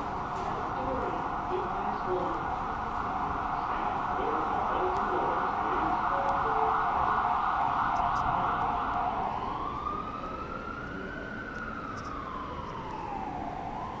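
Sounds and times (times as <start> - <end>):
emergency vehicle siren: 0.0 - 14.0.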